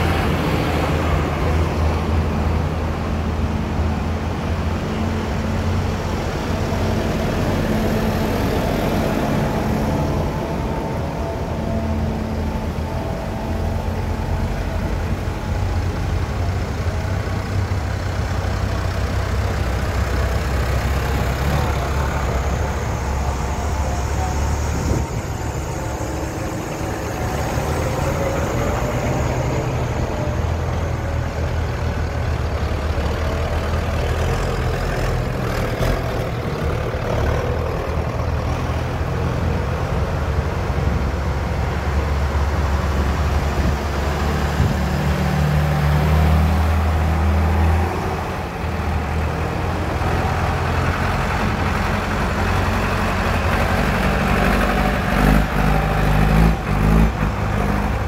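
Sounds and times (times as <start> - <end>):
tractor engines passing: 0.0 - 58.0.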